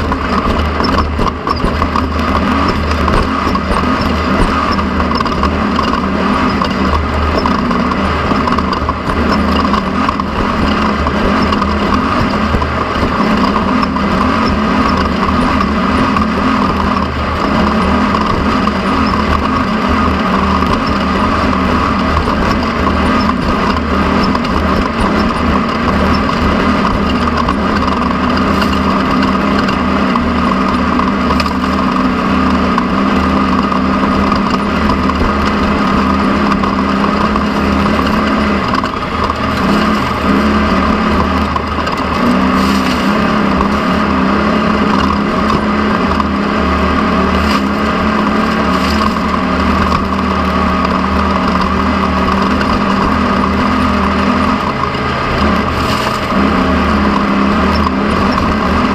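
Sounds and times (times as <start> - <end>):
driving noise: 0.0 - 58.9
race car engine running hard: 0.0 - 58.9.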